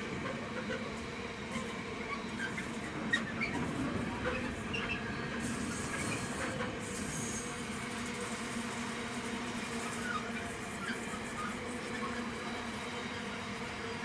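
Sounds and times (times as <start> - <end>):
freight train wheels on rail: 0.0 - 14.0.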